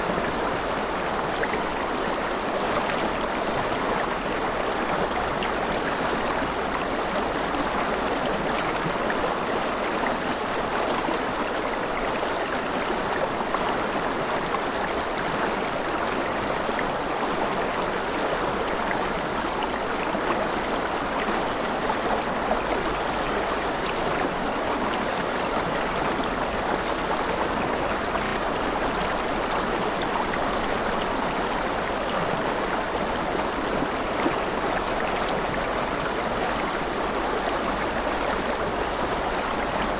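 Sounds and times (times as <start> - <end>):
river water flowing: 0.0 - 39.9
water gurgling: 0.0 - 39.9.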